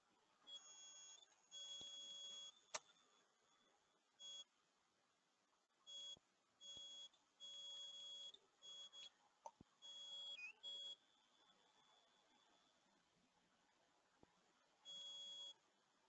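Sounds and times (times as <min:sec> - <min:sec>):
faint high-pitched beeping: 0:00.4 - 0:04.6, 0:05.8 - 0:09.2, 0:09.8 - 0:13.8, 0:14.5 - 0:16.0.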